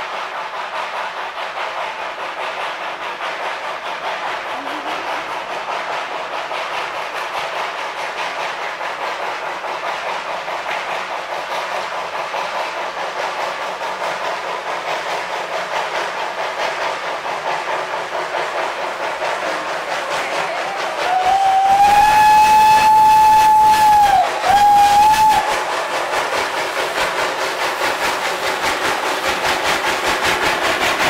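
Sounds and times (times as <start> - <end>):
steam hissing: 0.0 - 31.0
steam locomotive chuffing: 0.0 - 31.0.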